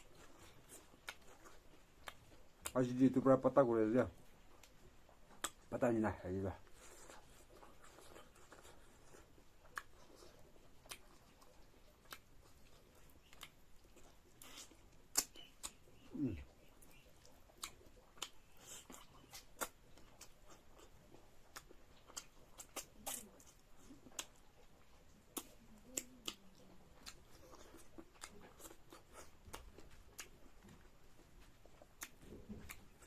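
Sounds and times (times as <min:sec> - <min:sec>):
chewing clicks and smacks: 0:00.0 - 0:03.6, 0:04.2 - 0:05.9, 0:06.6 - 0:33.0.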